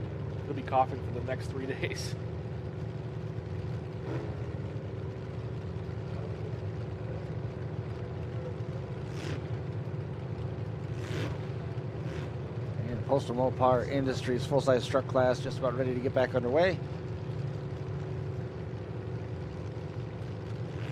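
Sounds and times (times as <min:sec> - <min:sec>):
truck engines idling: 0:00.0 - 0:20.9.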